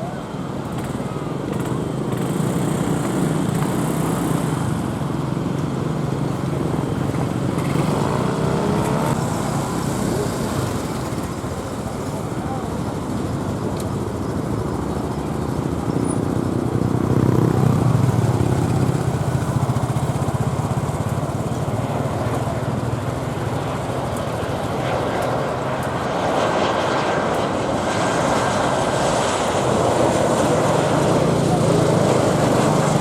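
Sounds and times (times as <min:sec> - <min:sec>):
vehicle engine noise: 0:00.0 - 0:33.0.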